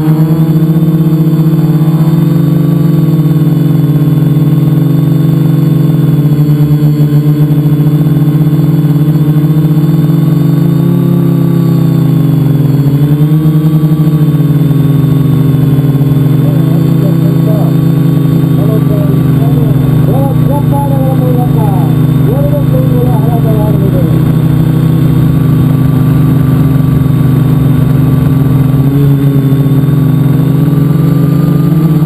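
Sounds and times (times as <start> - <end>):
drone propellers humming: 0.0 - 32.0.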